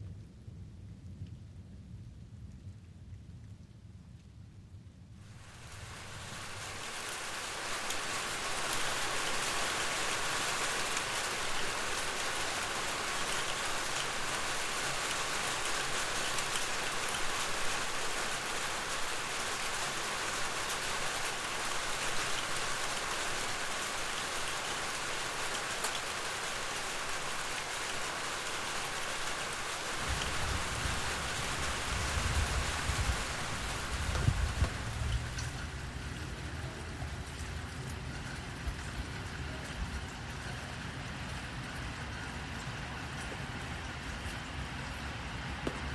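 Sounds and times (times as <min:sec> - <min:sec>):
steady rain patter: 0:05.2 - 0:45.9.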